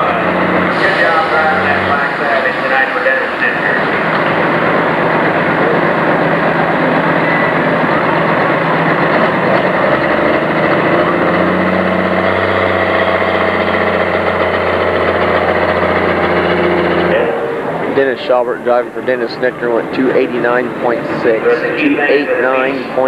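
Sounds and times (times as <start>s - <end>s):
diesel tractor engine running hard: 0.0s - 23.0s.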